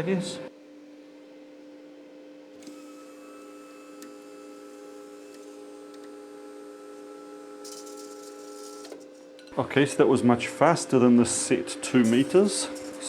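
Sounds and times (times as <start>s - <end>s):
wire-feed motor running: 2.5s - 13.0s.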